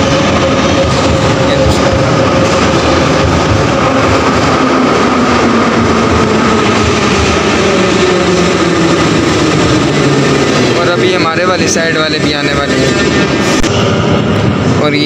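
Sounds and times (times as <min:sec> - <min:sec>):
metro train rumbling and whining: 0:00.0 - 0:15.0.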